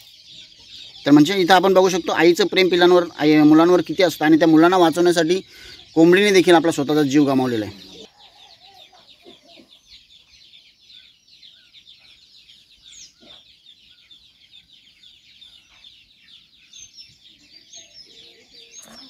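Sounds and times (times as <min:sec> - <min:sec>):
chicken clucking: 0:00.0 - 0:19.0
chicks cheeping: 0:00.0 - 0:19.0.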